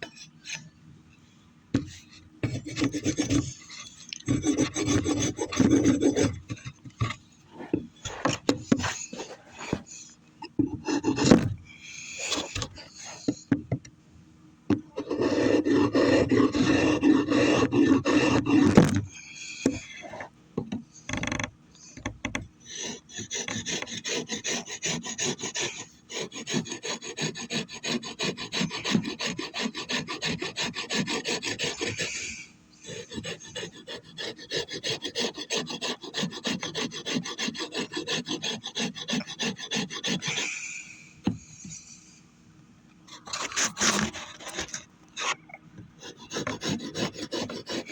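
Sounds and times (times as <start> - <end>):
rasp scraping wood: 1.8 - 13.6, 14.9 - 20.3, 21.0 - 40.6, 43.1 - 47.9.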